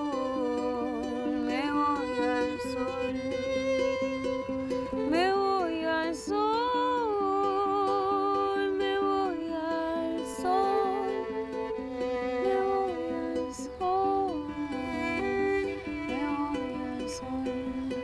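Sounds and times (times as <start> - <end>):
plucked strings rhythm: 0.0 - 18.0
violin melody: 0.0 - 18.0.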